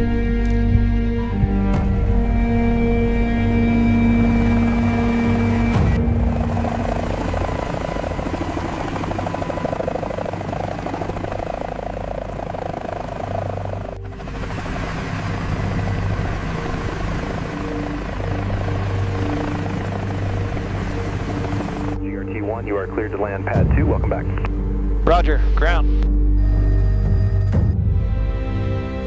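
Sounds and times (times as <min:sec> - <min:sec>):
helicopter rotor and engine: 0:01.3 - 0:25.2.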